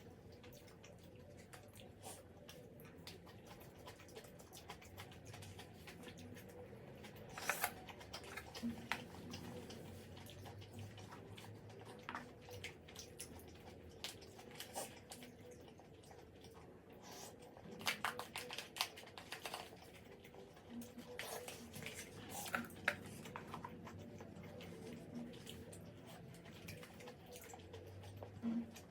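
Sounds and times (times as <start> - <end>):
chewing smacks: 0.0 - 28.9.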